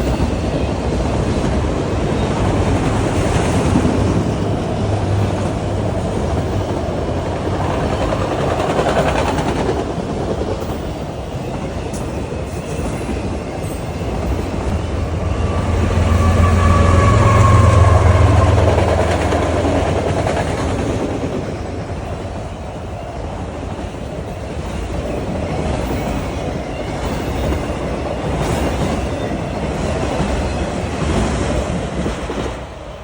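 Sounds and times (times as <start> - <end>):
train cars rumbling and clacking: 0.0 - 33.0.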